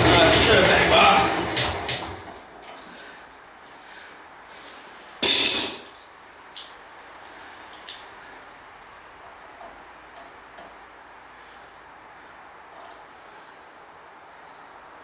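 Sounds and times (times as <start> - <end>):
faint steady hiss: 2.4 - 15.0.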